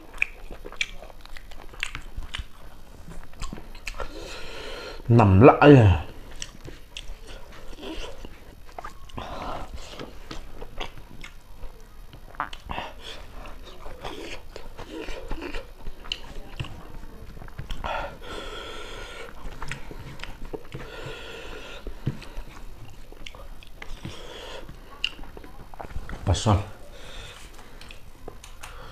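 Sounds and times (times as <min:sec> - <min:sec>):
wet chewing and lip smacks: 0:00.0 - 0:04.2, 0:06.2 - 0:26.2, 0:27.7 - 0:28.9.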